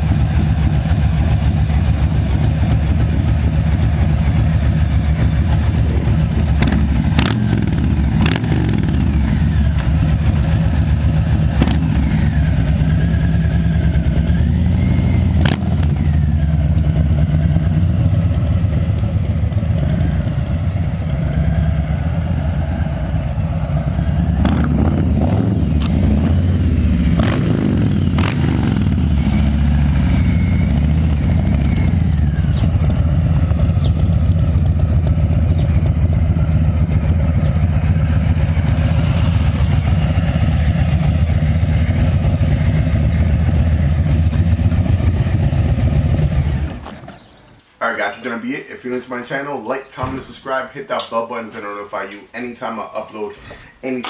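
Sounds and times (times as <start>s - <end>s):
motorcycle exhaust note: 0.0s - 47.4s.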